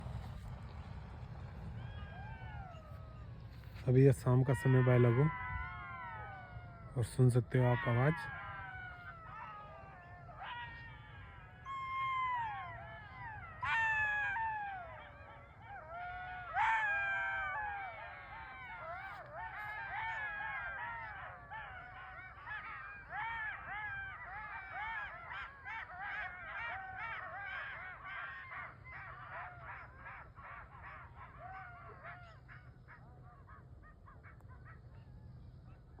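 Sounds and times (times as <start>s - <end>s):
animals howling and yipping: 0.0s - 36.0s.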